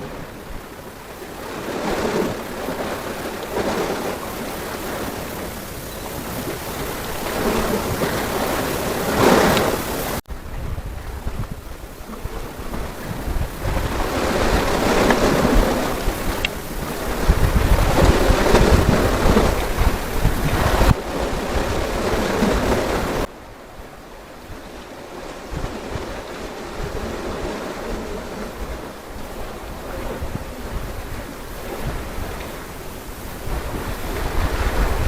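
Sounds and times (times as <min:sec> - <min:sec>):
sea waves washing in: 0:00.0 - 0:35.0
wind buffeting microphone: 0:00.0 - 0:35.0.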